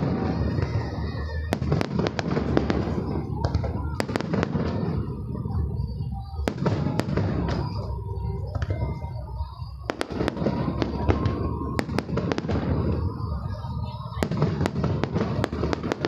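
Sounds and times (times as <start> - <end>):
fireworks sharp bangs: 0.0 - 16.0.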